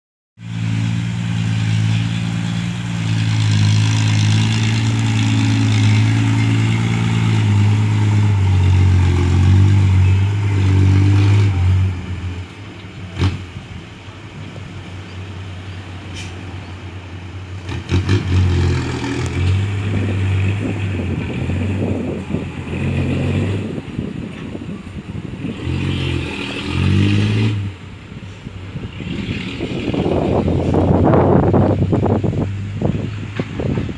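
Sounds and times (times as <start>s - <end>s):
diesel engine revving: 0.4s - 33.9s.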